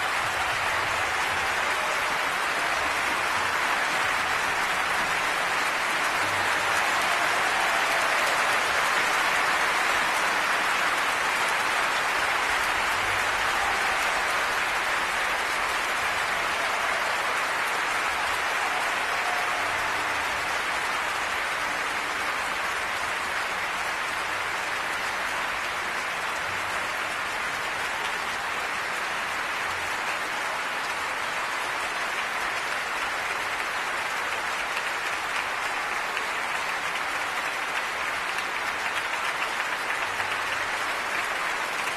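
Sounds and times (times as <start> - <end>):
audience applauding: 0.0 - 41.9.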